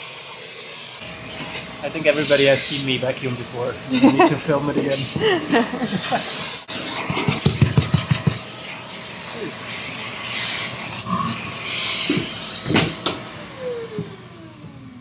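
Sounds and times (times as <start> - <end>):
vacuum cleaner hissing: 0.0 - 15.0.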